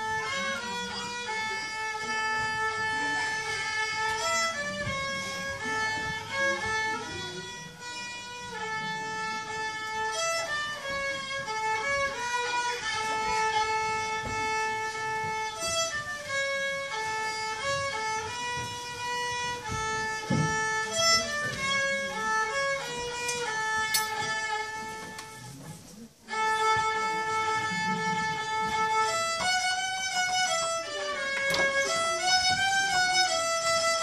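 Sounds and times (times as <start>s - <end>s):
solo fiddle tune: 0.0s - 34.0s.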